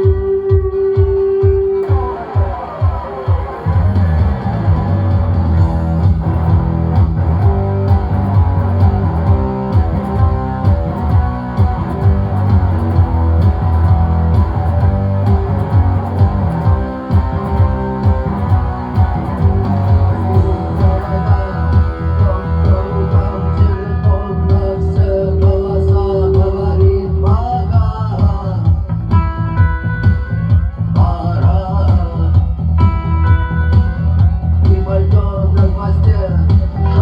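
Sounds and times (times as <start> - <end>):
bass guitar: 0.0 - 37.0
guitars: 0.0 - 37.0
steady drum beat: 0.0 - 37.0.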